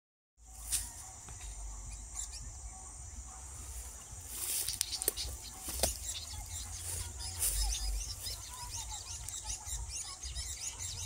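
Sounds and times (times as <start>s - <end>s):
bird chirps: 0.4s - 11.0s
insect buzzing drone: 0.4s - 11.0s.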